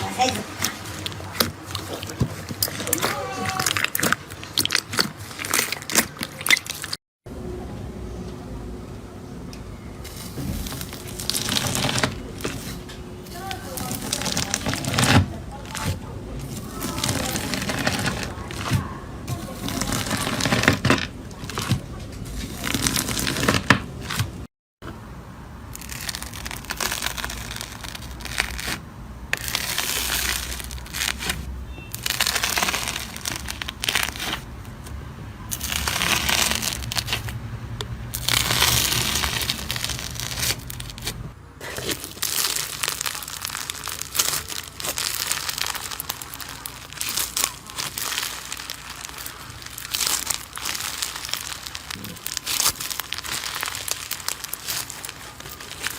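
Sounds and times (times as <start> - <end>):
slime squishing: 0.0 - 7.0, 10.0 - 24.5, 25.6 - 55.9.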